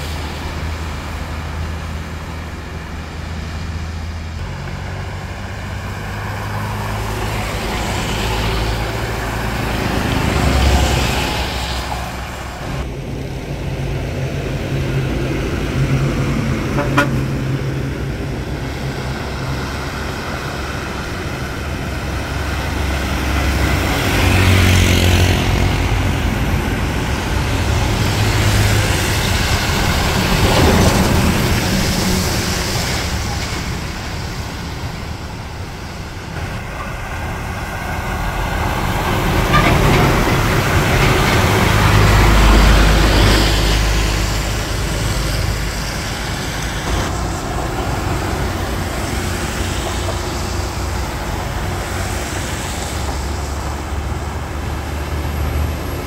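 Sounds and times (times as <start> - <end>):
diesel truck engine drone: 0.0 - 56.0
tyres hissing on wet road: 0.0 - 56.0.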